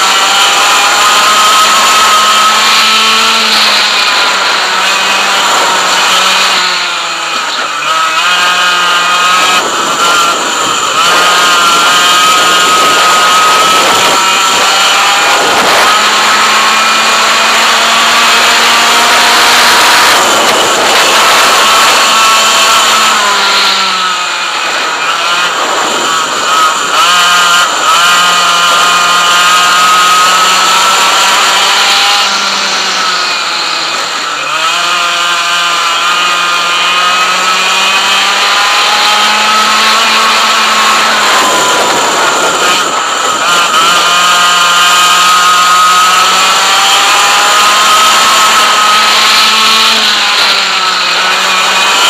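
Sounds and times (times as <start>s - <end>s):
kart engine revving: 0.0s - 52.0s.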